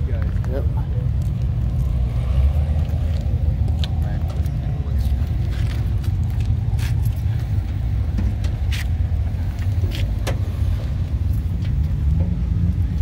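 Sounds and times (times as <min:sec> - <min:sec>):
car rumbling on the move: 0:00.0 - 0:13.0.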